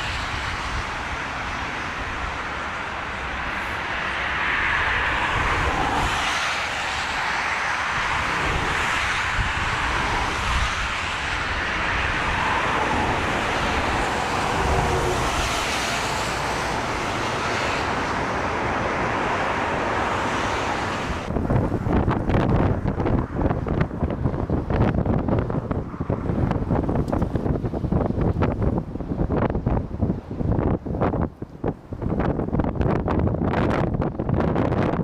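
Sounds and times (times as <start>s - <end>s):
jet airliner engine noise: 0.0s - 35.0s.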